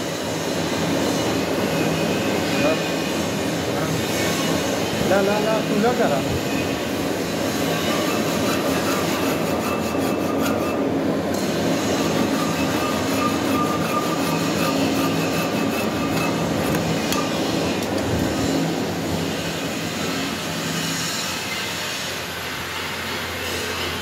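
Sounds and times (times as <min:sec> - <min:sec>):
metal lathe running: 0:00.0 - 0:24.0
file rasping on metal: 0:01.8 - 0:22.2.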